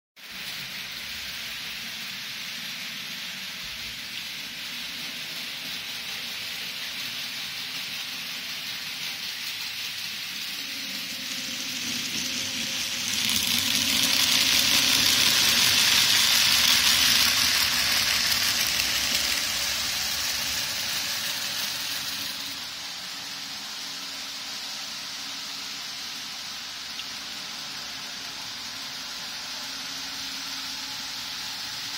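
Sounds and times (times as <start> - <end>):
model train running on track: 0.2 - 31.9
steady hiss: 0.2 - 31.9.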